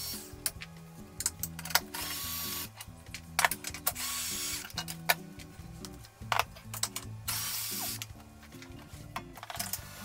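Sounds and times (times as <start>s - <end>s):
low background melody: 0.0s - 10.0s.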